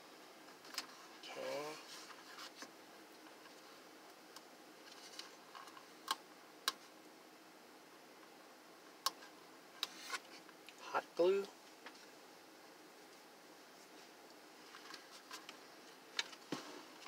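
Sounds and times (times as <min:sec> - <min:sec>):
low room noise: 0:00.0 - 0:17.0.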